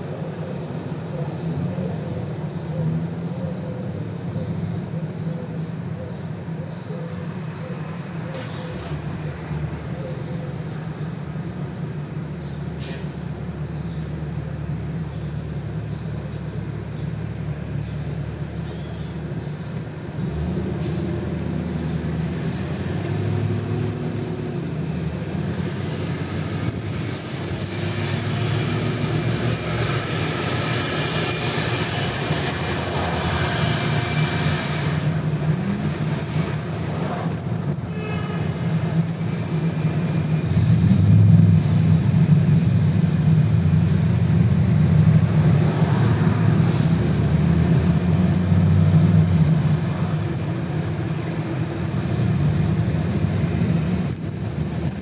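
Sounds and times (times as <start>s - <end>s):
car engine and tyres droning: 0.0s - 55.0s
passing vehicle with high whine: 0.0s - 55.0s.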